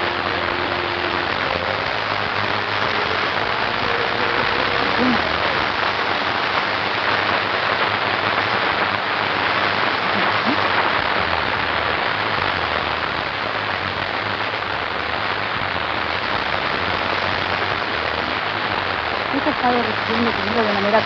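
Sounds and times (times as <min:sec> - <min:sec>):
loud steady hiss: 0:00.0 - 0:21.0.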